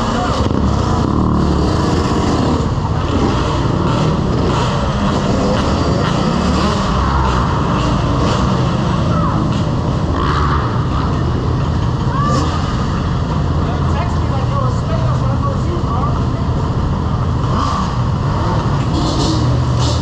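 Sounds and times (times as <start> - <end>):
motorcycle engine: 0.0 - 20.0
road noise: 0.0 - 20.0.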